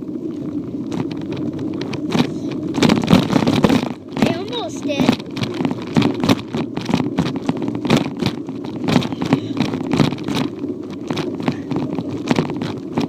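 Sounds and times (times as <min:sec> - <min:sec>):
bicycle rattling: 0:00.0 - 0:13.0
bicycle rolling rumble: 0:00.0 - 0:13.0.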